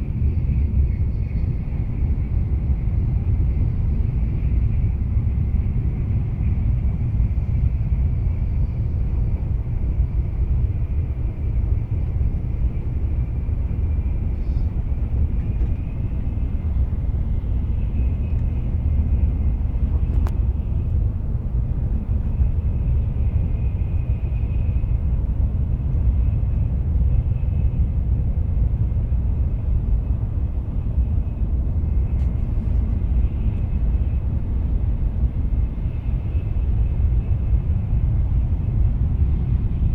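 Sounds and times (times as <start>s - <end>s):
faint high whine: 0.0s - 39.9s
train rumble from inside: 0.0s - 39.9s.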